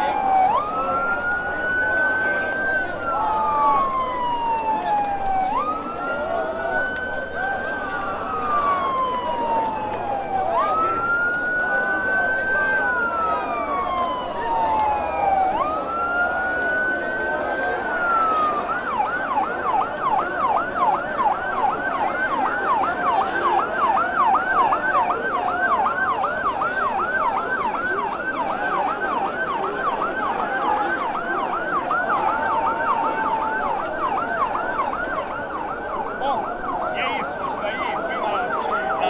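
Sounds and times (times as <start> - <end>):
fire engine siren: 0.0 - 39.0.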